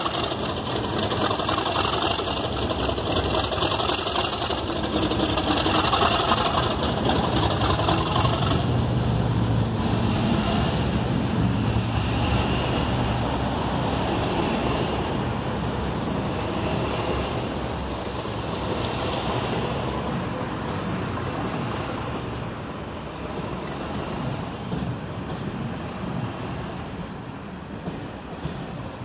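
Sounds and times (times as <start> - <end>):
diesel locomotive engine rumble: 0.0 - 29.0
train coaches rolling: 0.0 - 29.0.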